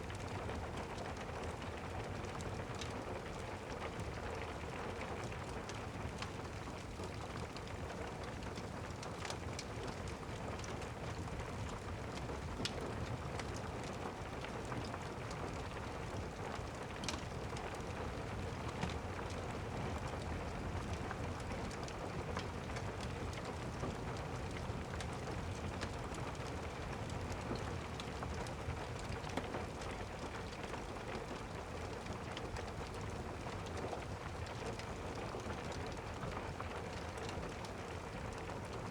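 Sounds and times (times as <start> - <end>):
steady rain: 0.0 - 38.9
wood fire crackling: 0.1 - 38.7.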